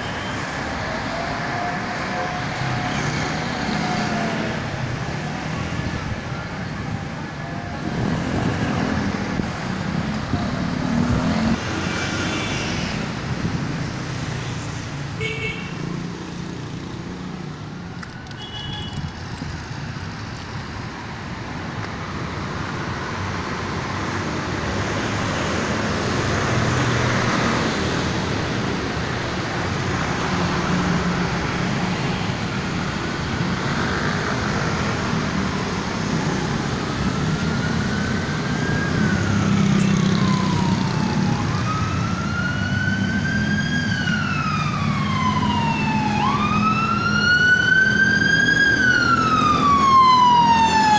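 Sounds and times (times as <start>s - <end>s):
emergency vehicle siren wailing: 0.0s - 14.9s, 16.4s - 50.9s
passing cars and motorcycles: 0.0s - 50.9s.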